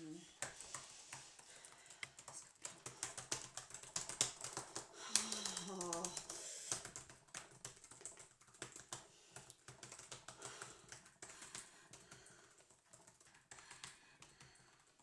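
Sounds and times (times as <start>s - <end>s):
typing on a laptop keyboard: 0.3s - 15.0s.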